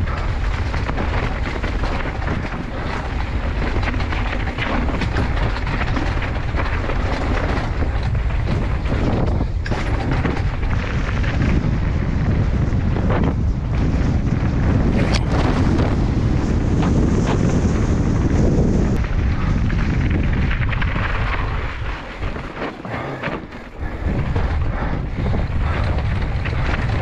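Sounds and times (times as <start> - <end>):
bike rattling: 0.0 - 27.0
wind on microphone: 0.0 - 27.0.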